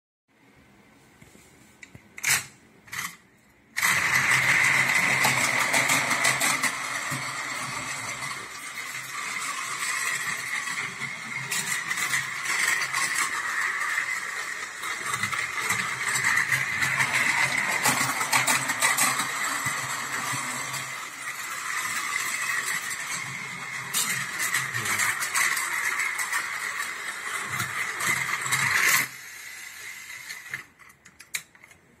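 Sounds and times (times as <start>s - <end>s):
toy train motor whirring: 2.2s - 3.2s, 3.8s - 31.5s
toy train wheels rattling: 3.8s - 31.7s.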